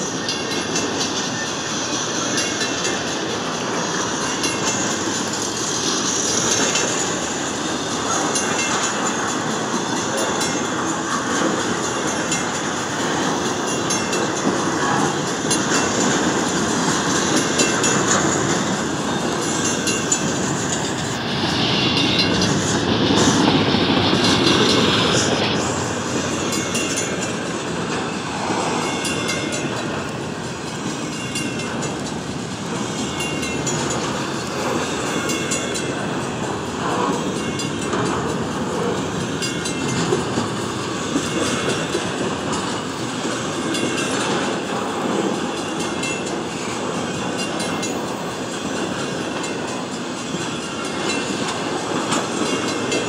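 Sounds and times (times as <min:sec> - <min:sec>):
steel wheels rolling on rail: 0:00.0 - 0:53.0.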